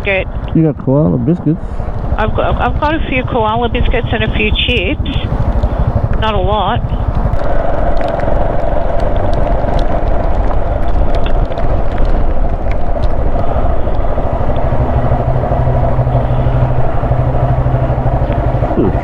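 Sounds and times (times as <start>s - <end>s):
motorcycle engine running: 0.0s - 0.6s, 1.5s - 19.0s
road noise: 0.0s - 19.0s.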